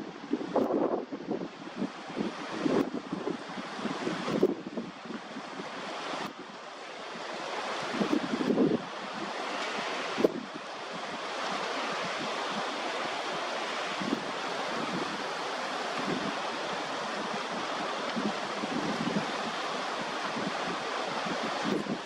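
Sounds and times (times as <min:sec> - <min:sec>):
wind buffeting microphone: 0:00.0 - 0:06.6, 0:07.2 - 0:22.0
rough sea rushing: 0:00.0 - 0:22.0.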